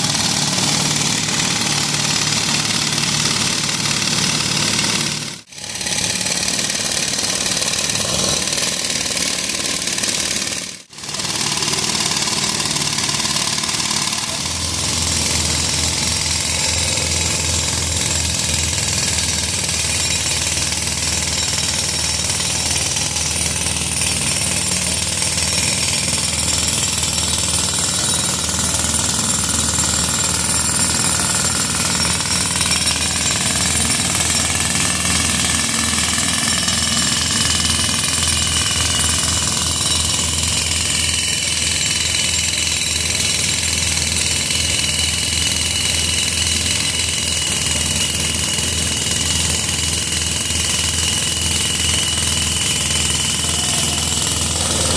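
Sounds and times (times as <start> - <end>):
jackhammer breaking pavement: 0.0 - 54.9.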